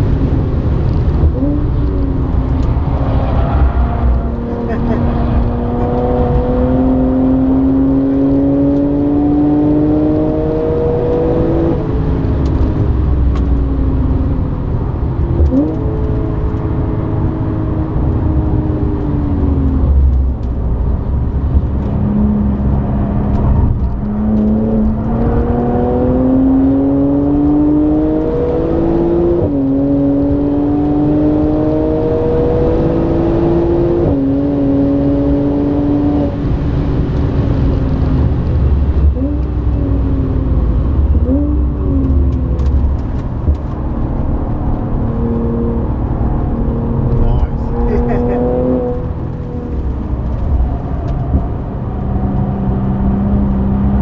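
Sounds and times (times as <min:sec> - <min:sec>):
car engine revving through gears: 0:00.1 - 0:54.0.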